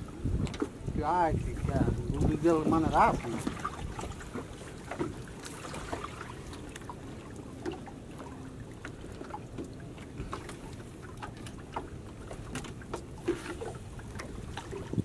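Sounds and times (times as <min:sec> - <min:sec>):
taps and splashes on hull: 0:00.0 - 0:15.0.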